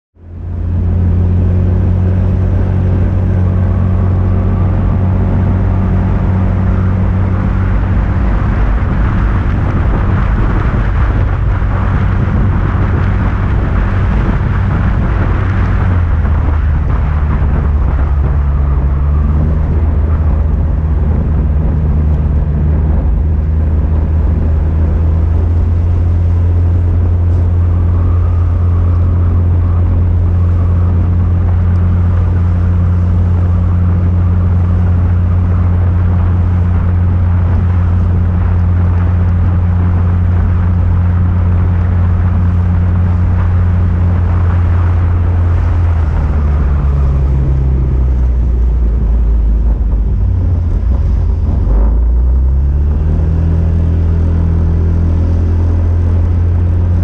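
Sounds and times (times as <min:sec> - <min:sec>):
wind and road rush: 0:00.1 - 0:57.0
motorbike engine droning: 0:00.2 - 0:57.0.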